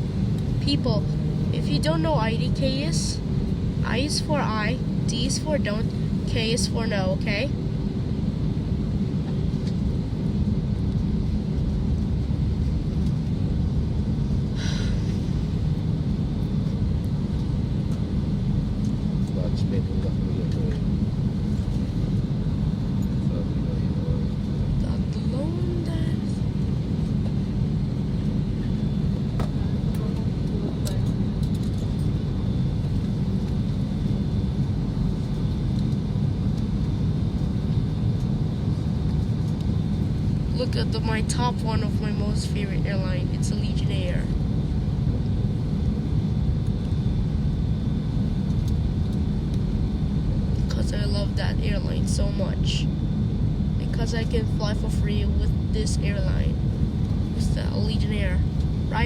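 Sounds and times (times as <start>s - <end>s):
airliner engines rumbling in cabin: 0.0s - 59.0s.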